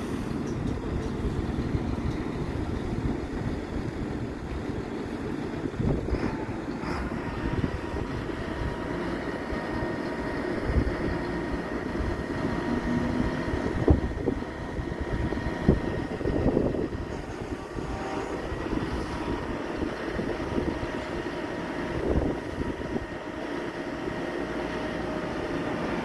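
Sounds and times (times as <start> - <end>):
wind rumbling on microphone: 0.0 - 24.3
crane engine running: 0.0 - 26.0.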